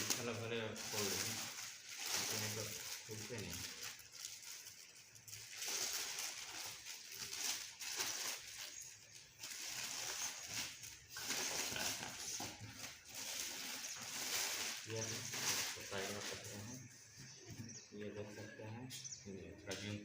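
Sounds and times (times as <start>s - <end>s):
plastic packaging crinkling: 0.0s - 16.9s.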